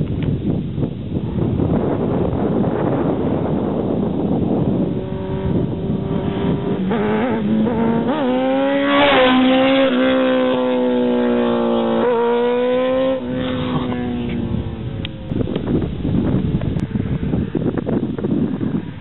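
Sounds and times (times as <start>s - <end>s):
motorcycle engine revving: 1.3s - 19.0s.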